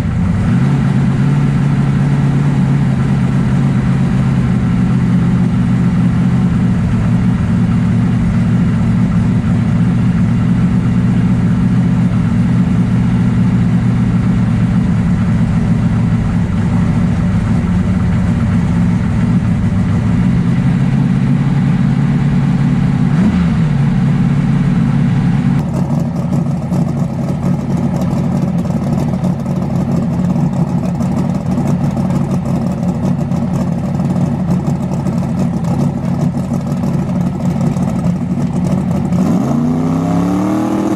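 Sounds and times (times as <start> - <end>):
race car engine idling: 0.0 - 40.4.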